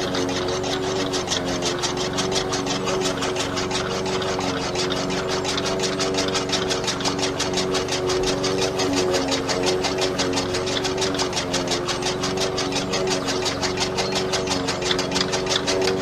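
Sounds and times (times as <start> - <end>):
small motor running: 0.0 - 16.0.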